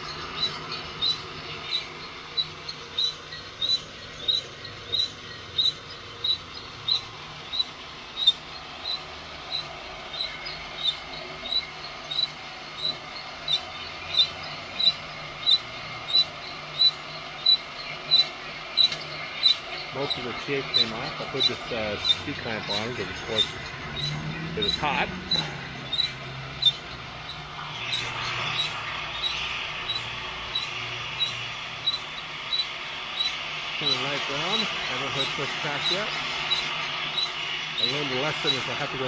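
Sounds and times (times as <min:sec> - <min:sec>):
heat gun and drill humming: 0:00.0 - 0:39.0
rotating drum squeaking: 0:00.0 - 0:39.0.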